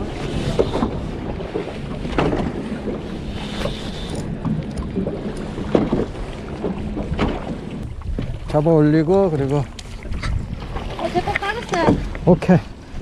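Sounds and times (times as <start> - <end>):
water slapping boat hull: 0.0 - 13.0
wind on microphone: 0.0 - 13.0.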